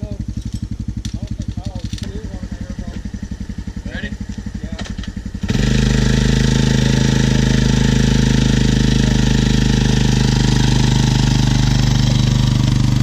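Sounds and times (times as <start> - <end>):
atv engine idling loudly: 0.0 - 13.0.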